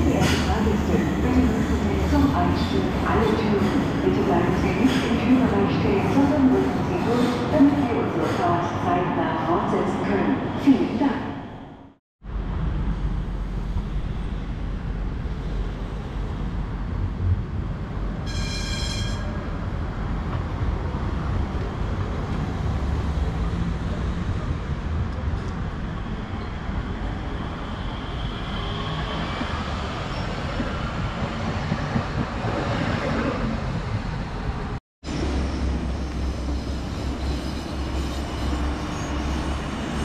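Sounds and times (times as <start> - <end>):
train rumbling on rails: 0.0 - 40.0.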